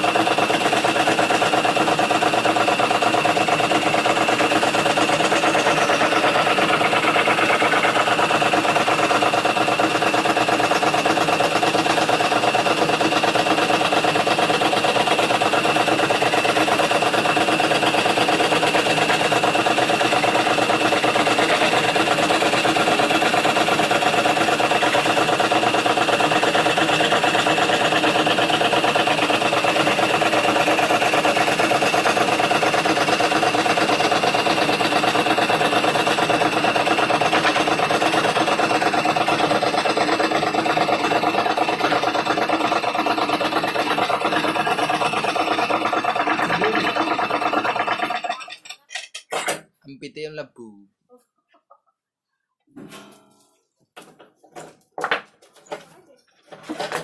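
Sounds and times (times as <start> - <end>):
scroll saw running: 0.0 - 48.7.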